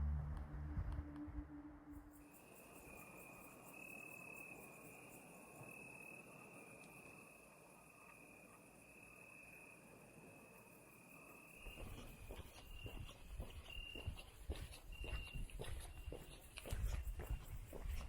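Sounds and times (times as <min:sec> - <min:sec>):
faint pulsing chirp: 0:00.0 - 0:18.0
crickets trilling: 0:02.1 - 0:18.0.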